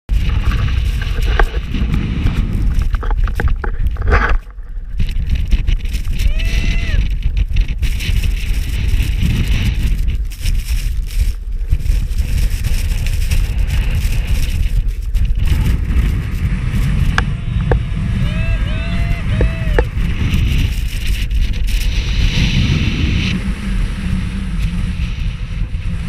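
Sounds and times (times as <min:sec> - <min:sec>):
gusting wind on microphone: 0:00.1 - 0:26.0.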